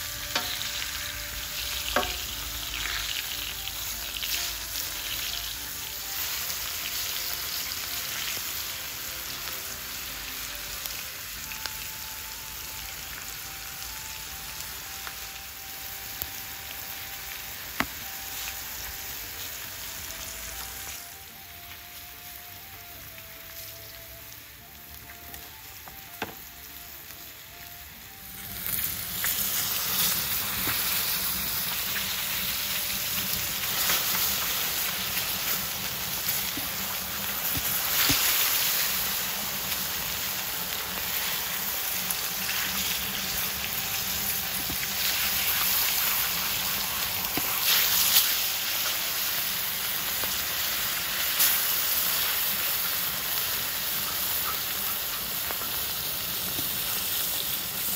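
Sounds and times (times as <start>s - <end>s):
meat sizzling in oil: 0.0s - 57.9s.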